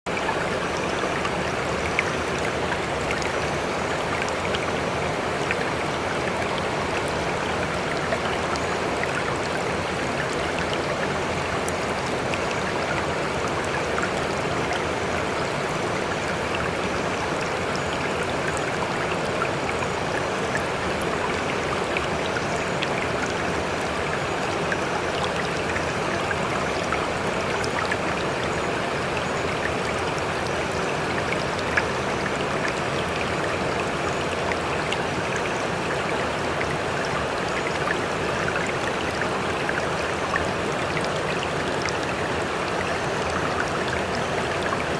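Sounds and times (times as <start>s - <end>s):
running water rushing: 0.1s - 44.9s.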